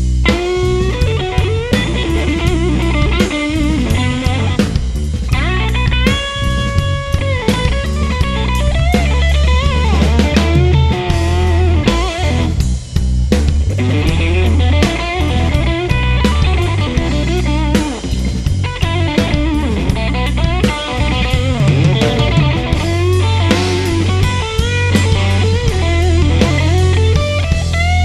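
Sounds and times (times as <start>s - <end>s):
bass guitar: 0.0s - 28.0s
drum kit: 0.0s - 28.0s
electric guitar solo: 0.3s - 12.6s, 13.8s - 28.0s.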